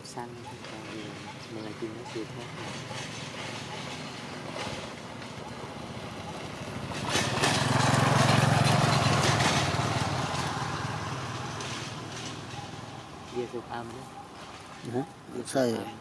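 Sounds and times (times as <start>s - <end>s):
vehicle engine passing by: 0.5s - 15.1s.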